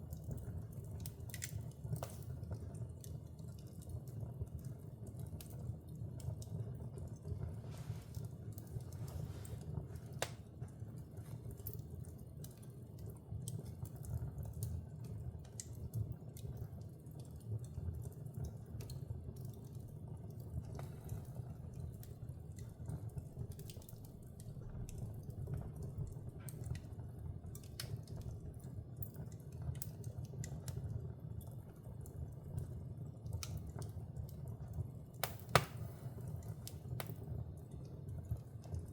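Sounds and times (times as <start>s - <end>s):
low rumble of fire: 0.0s - 38.9s
wood fire crackling: 0.0s - 38.9s.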